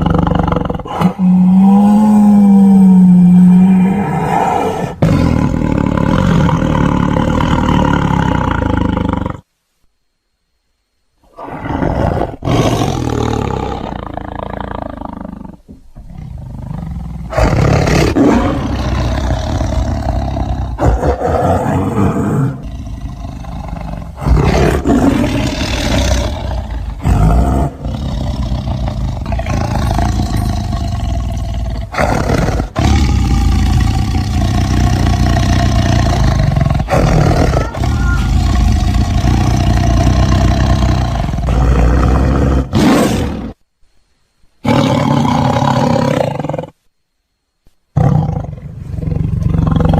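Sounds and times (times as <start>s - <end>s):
tiger roaring and growling: 0.0s - 9.5s, 11.3s - 43.6s, 44.6s - 46.8s, 48.0s - 49.9s.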